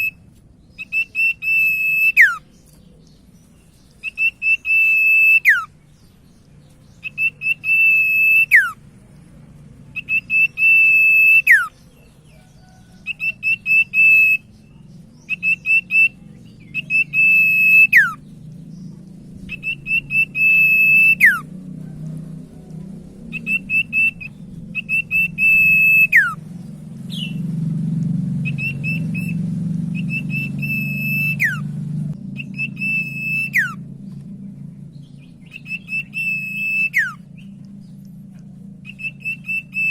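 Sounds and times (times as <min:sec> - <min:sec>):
bird singing whistled notes: 0:00.0 - 0:08.8, 0:09.9 - 0:21.6, 0:23.3 - 0:27.5, 0:28.4 - 0:38.1, 0:38.8 - 0:39.9
low background hum: 0:00.0 - 0:39.9.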